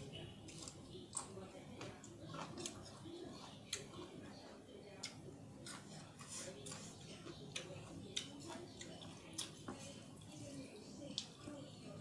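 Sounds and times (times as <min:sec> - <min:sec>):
quiet chewing: 0:00.0 - 0:12.0.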